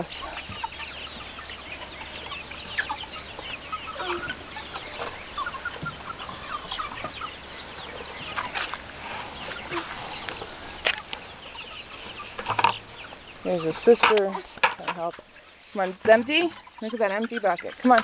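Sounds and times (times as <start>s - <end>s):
young chickens chirping and peeping: 0.0s - 18.0s.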